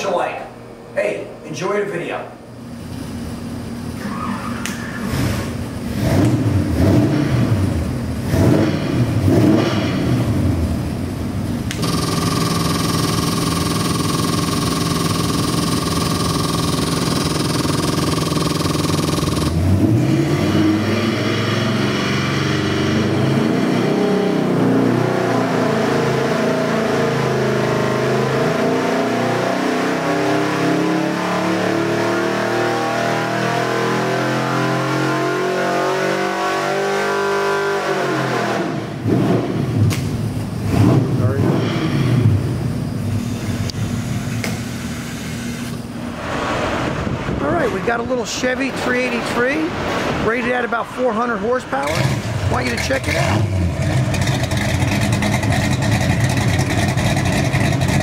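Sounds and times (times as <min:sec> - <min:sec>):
engine revving on dyno: 0:04.0 - 0:48.2, 0:48.8 - 0:58.0.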